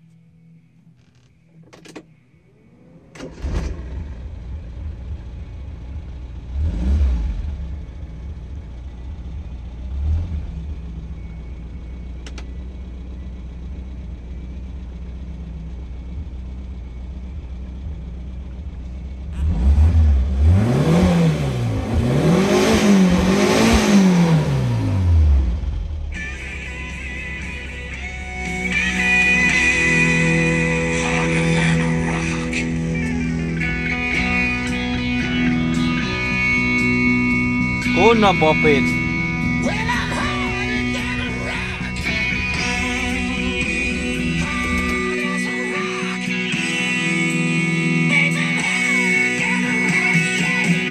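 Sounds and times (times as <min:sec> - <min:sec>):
car radio music: 0:00.0 - 0:04.8, 0:08.1 - 0:50.9
car engine starting and idling: 0:00.0 - 0:50.9
car engine revving: 0:02.5 - 0:50.9.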